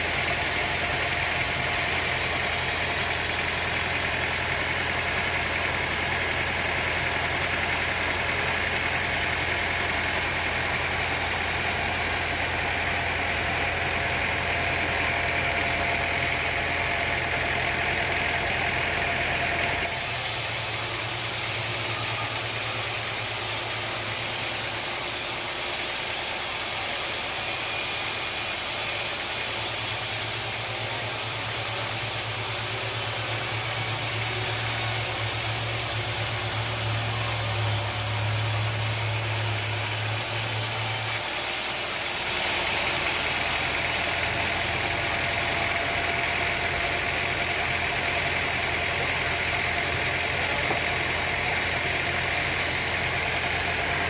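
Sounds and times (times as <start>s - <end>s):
sawmill machinery humming and hissing: 0.0s - 54.0s.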